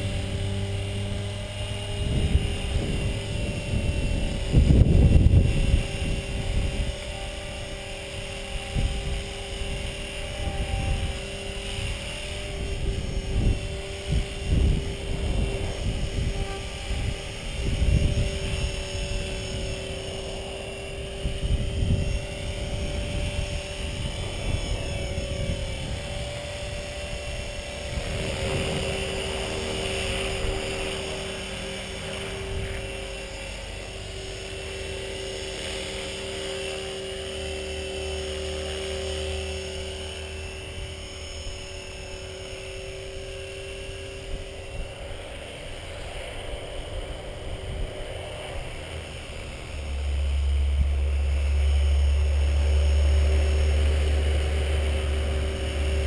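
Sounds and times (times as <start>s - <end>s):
rc helicopter motor whine: 0.0s - 56.0s
wind noise on microphone: 0.0s - 56.0s.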